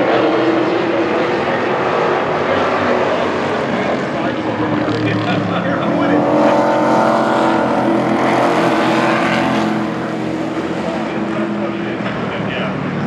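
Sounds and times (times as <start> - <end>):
race truck engines racing: 0.0 - 13.0.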